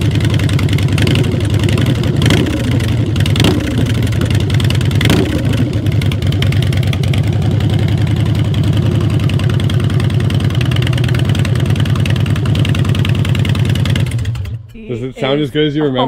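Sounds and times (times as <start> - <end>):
motorcycle engine idling: 0.0 - 14.7.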